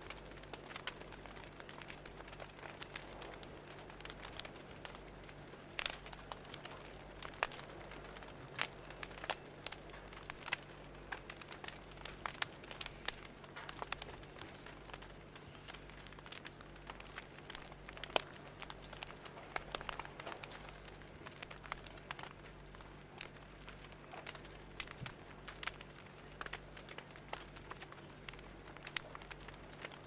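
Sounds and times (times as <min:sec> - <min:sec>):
faint low hum: 0:00.0 - 0:30.0
fire crackling and popping: 0:00.0 - 0:30.0.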